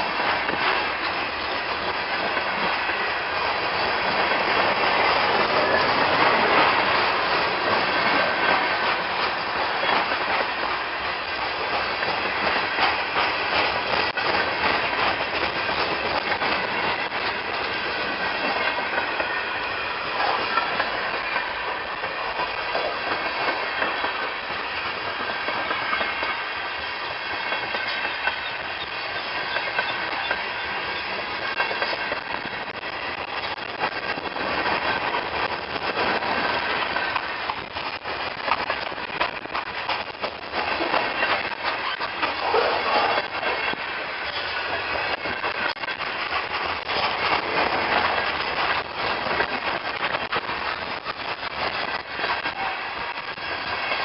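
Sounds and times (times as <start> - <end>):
train wheels clattering on rail joints: 0.0 - 54.0.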